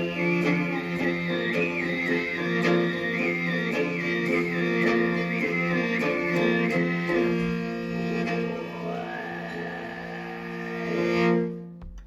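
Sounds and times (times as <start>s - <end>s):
plucked lute: 0.0s - 9.0s, 11.0s - 12.0s
bowed fiddle: 0.0s - 12.0s.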